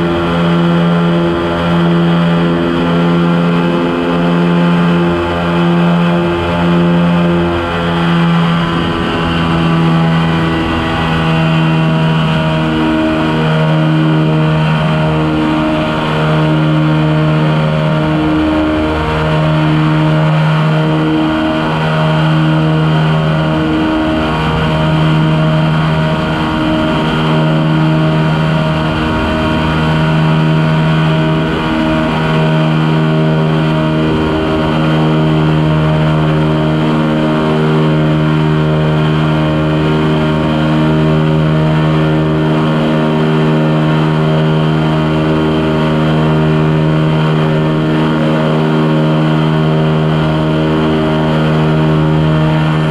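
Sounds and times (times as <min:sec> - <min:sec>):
aircraft engine and propeller drone: 0:00.0 - 0:52.9.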